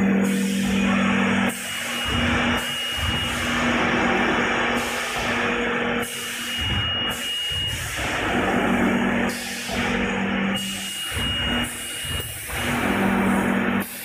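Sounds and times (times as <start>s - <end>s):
machine hiss: 0.0s - 14.0s
machine hum: 0.0s - 14.0s.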